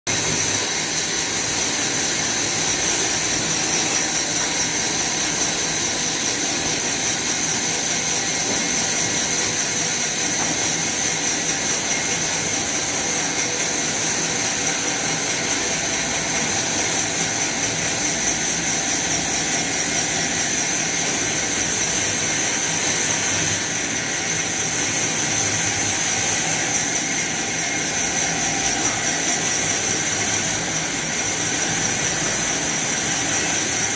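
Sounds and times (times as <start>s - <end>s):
saw blade whine: 0.1s - 33.9s
sawmill machine running: 0.1s - 33.9s.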